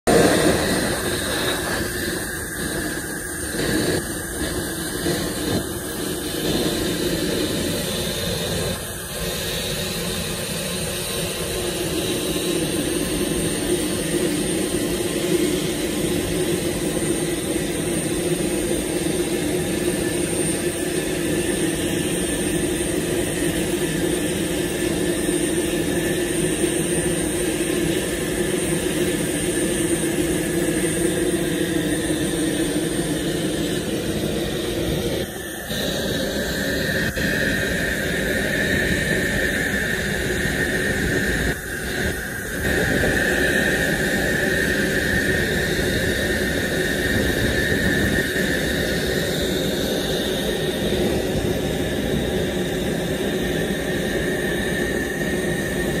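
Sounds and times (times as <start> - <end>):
jet aircraft drone: 0.0 - 56.0.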